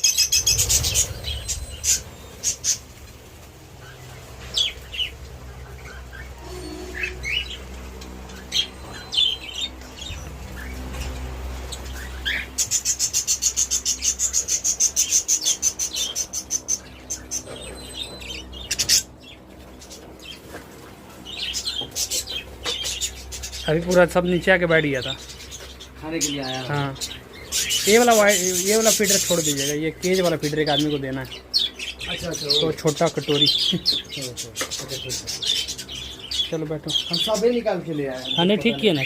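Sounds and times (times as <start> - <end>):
budgerigars chirping: 0.0 - 39.0.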